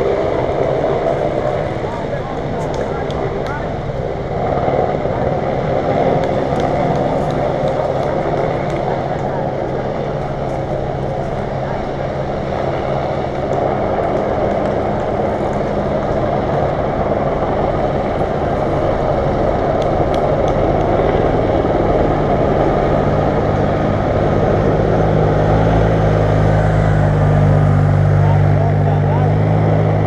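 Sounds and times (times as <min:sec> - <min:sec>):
motorcycle engine drone: 0:00.0 - 0:30.0.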